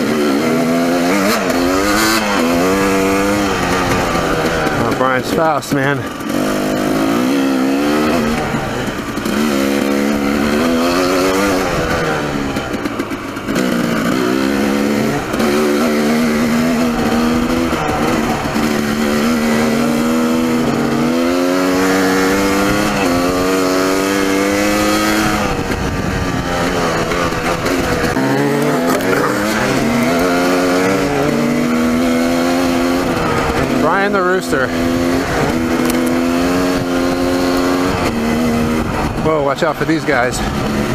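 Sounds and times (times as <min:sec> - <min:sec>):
dirt bike engine accelerating: 0:00.0 - 0:40.9.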